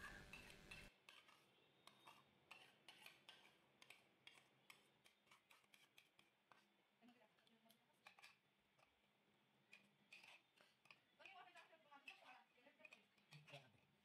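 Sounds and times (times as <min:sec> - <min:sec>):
metal spoon scraping pot: 0:00.0 - 0:06.8, 0:07.4 - 0:14.0.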